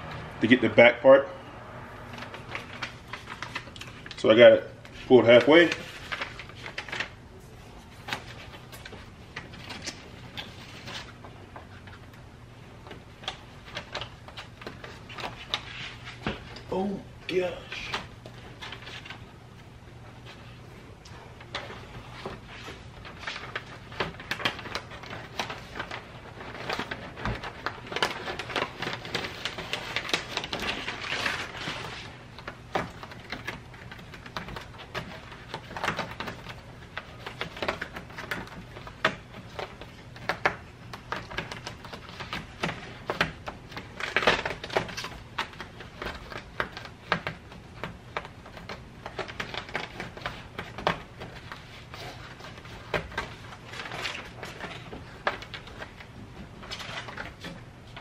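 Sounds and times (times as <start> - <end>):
rustling and crinkling of liner: 0.0 - 58.0.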